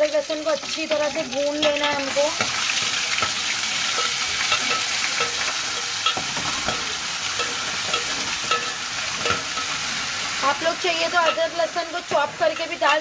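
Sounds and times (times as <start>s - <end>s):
paste sizzling in oil: 0.0s - 13.0s
spoon scraping pan: 0.8s - 13.0s.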